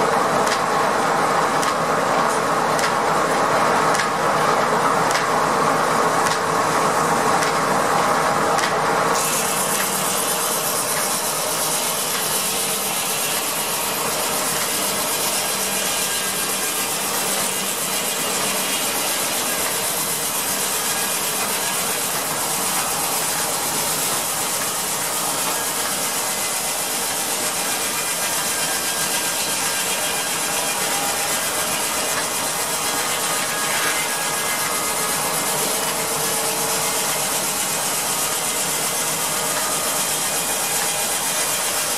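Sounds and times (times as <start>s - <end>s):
sawmill machinery running: 0.0s - 41.9s.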